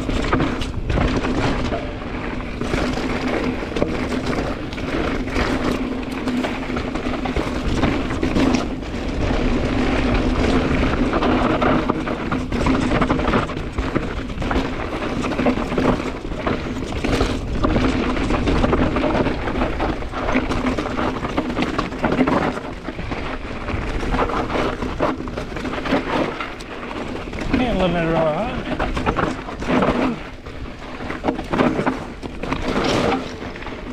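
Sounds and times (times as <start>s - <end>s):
bike knocks and rattles: 0.0s - 33.9s
bike tyres on dirt: 0.0s - 33.9s
wind buffeting microphone: 0.0s - 33.9s.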